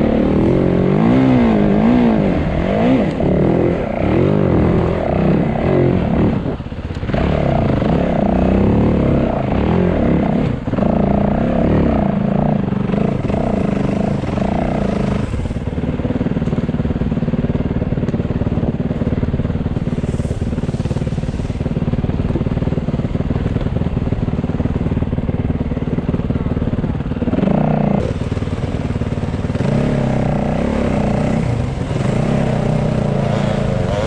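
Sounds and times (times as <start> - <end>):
motorcycle engine running and revving: 0.0 - 34.0.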